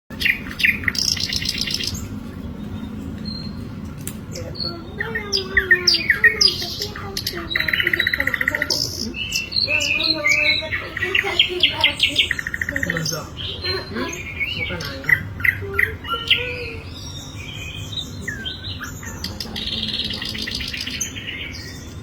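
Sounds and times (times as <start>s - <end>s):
bird singing chirps and trills: 0.1s - 22.0s.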